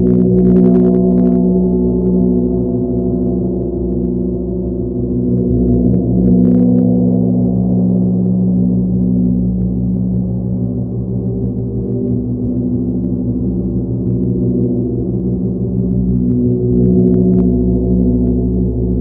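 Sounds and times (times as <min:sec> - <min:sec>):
ringing drone of healing instrument: 0:00.0 - 0:19.0.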